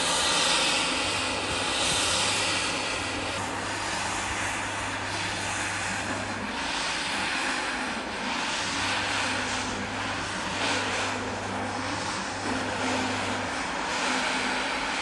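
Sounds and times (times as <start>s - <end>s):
floor scrubber motor drone: 0.0s - 15.0s.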